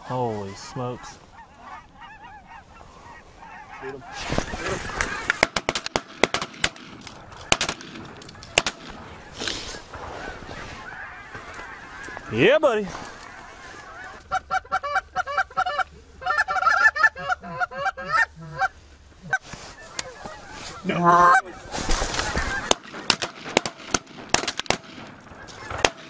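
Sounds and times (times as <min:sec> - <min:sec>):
rustle: 0:00.0 - 0:05.5, 0:06.6 - 0:26.0
geese honking: 0:00.0 - 0:26.0.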